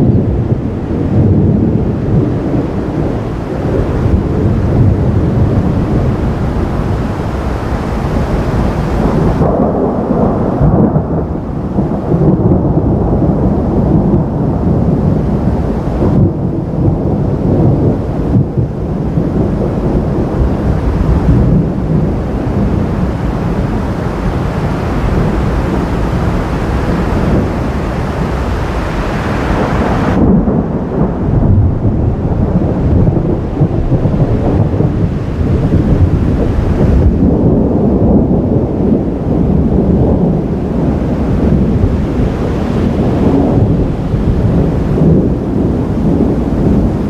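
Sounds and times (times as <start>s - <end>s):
thunder rumbling: 0.0s - 47.0s.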